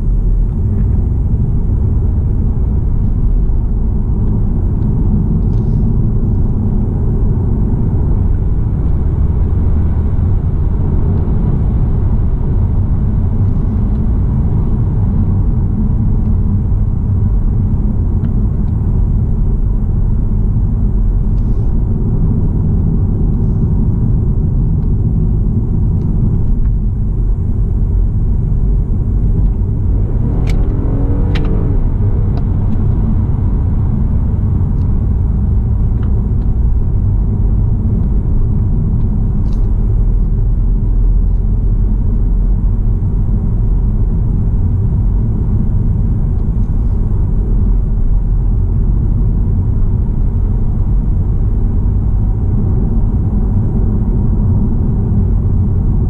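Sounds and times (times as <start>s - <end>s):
road and tyre rumble in car: 0.0s - 56.0s.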